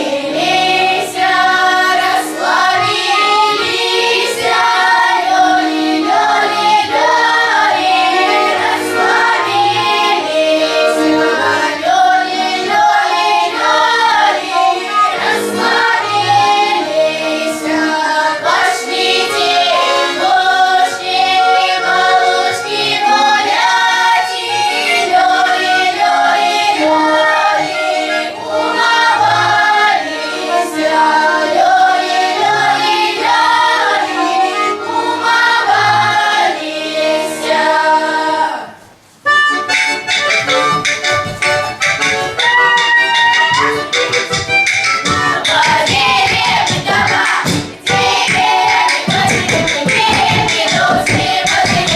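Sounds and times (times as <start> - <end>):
children's choir singing: 0.0 - 51.9
low accompanying notes: 0.0 - 51.9.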